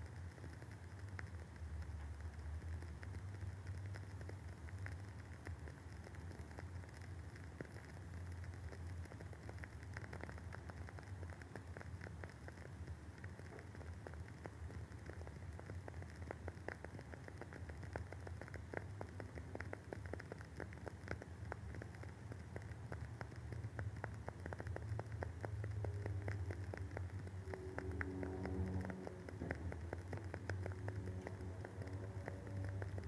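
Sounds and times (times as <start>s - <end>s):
candle wick crackling: 0.0s - 33.0s
low steady hum: 0.0s - 33.0s.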